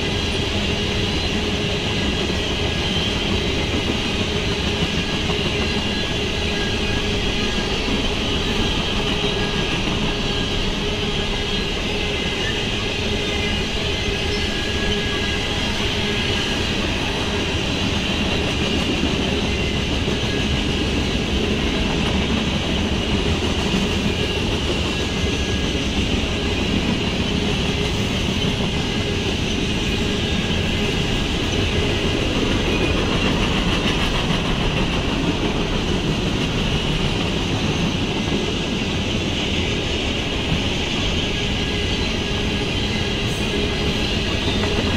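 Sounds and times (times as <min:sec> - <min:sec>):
freight train wheels on rails: 0:00.0 - 0:44.9.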